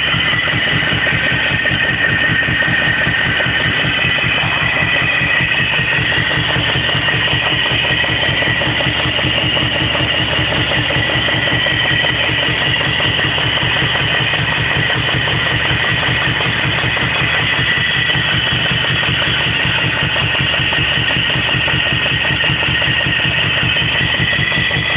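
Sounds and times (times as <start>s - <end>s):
car engine idling roughly: 0.0s - 24.9s
engine knocking: 0.0s - 24.9s.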